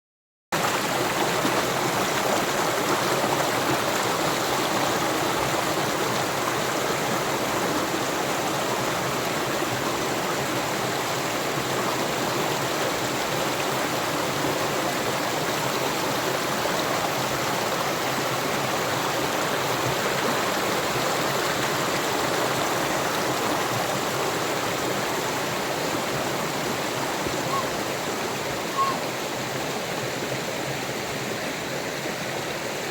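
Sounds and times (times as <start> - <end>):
waterfall rushing: 0.6 - 31.8.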